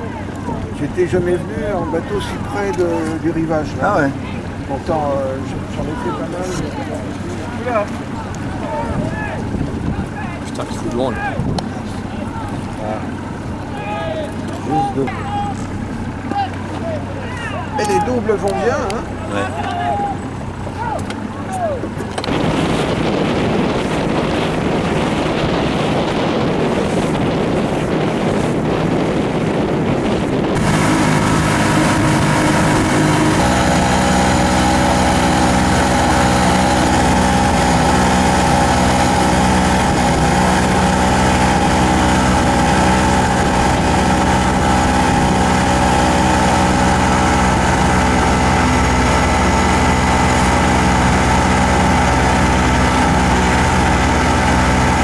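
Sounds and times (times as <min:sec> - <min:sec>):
motorboat engine running: 0:00.0 - 0:55.0
water noise: 0:00.0 - 0:55.0
wind: 0:00.0 - 0:55.0.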